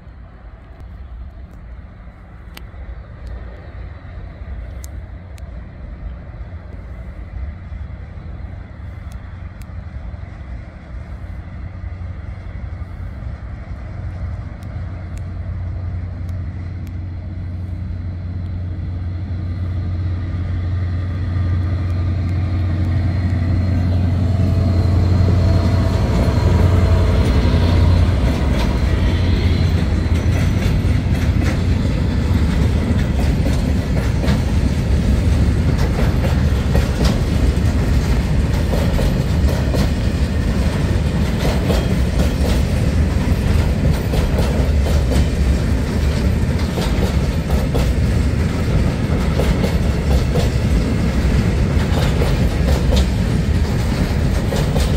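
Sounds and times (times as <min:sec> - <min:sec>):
locomotive engine drone: 0:00.0 - 0:54.9
wheel and rail noise: 0:00.0 - 0:54.9.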